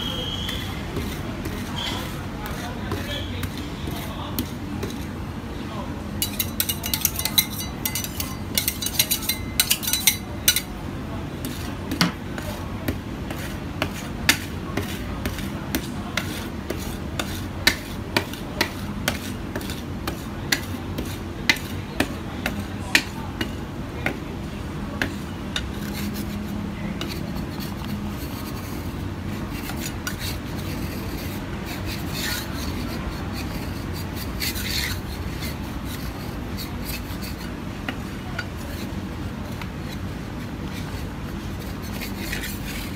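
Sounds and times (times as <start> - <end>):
metal spatula scraping cold plate: 0.0 - 5.2, 6.2 - 10.8, 13.3 - 23.6, 25.0 - 42.9.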